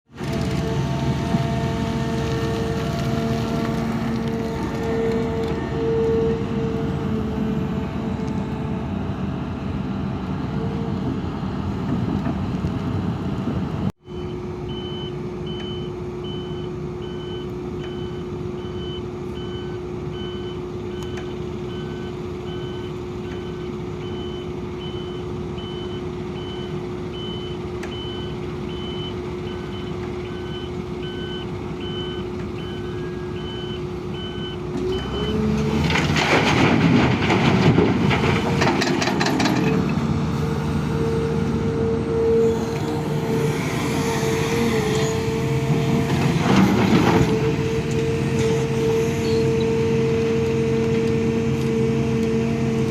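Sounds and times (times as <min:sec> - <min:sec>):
excavator diesel engine running: 0:00.1 - 0:52.9.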